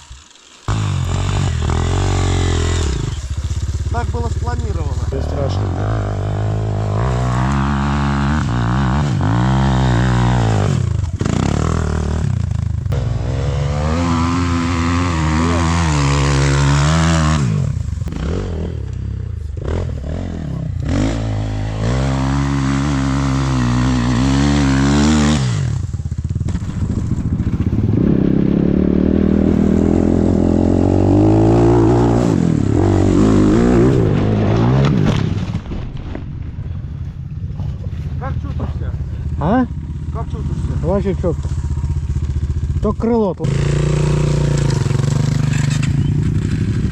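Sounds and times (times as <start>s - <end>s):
motorcycle engine revving: 0.0s - 35.7s, 36.7s - 46.9s.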